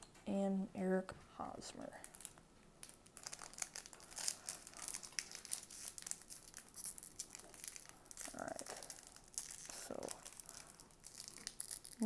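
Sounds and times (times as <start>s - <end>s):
plastic wrapper crinkling and tearing: 1.9s - 12.0s.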